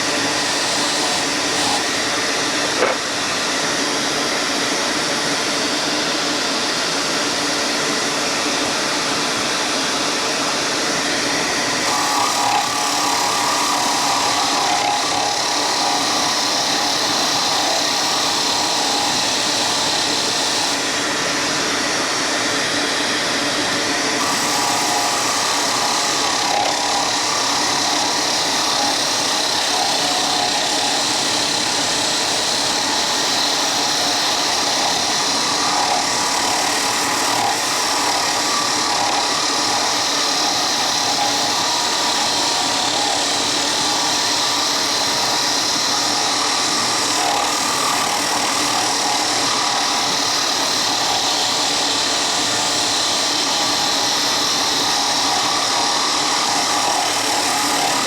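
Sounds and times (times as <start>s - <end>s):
power tool working wood: 0.0s - 58.0s.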